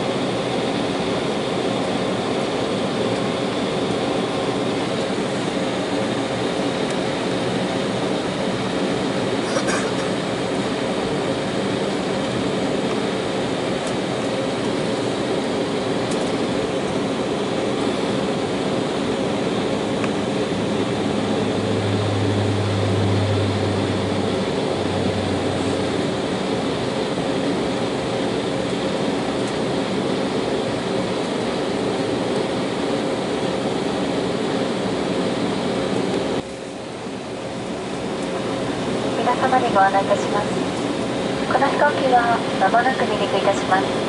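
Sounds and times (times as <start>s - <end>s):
deeper engine drone: 0.0s - 36.7s, 37.4s - 44.0s
aircraft cabin engine hum: 0.0s - 44.0s.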